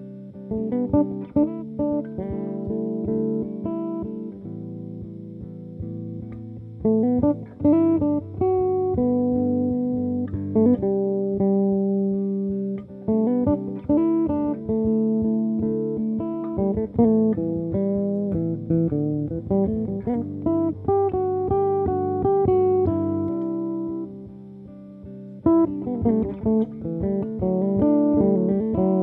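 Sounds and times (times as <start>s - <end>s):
electric bass plucked notes: 0.0s - 29.0s.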